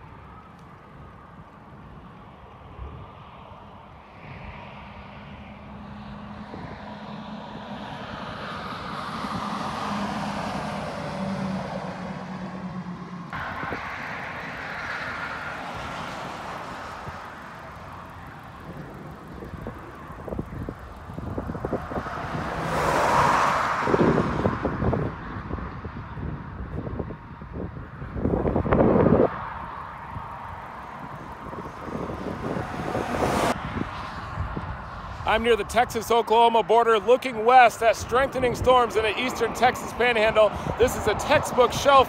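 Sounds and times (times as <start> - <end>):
traffic passing on highway: 0.0 - 42.0.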